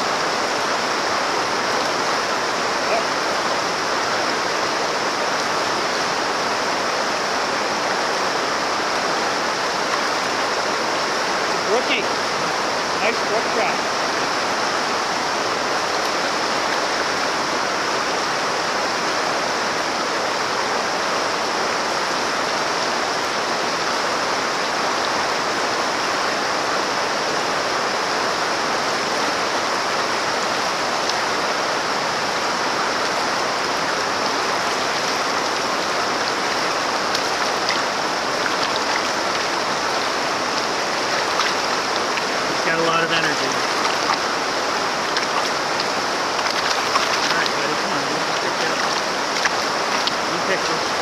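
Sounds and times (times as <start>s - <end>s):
river rushing over stones: 0.0s - 51.0s.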